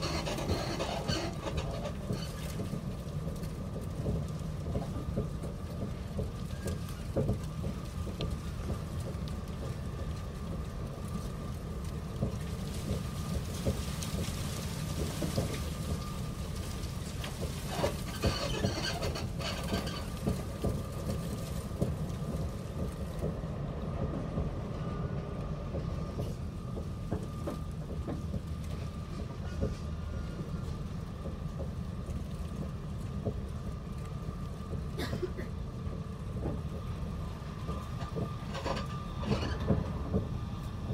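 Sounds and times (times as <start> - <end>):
train carriage rumble: 0.0 - 40.9.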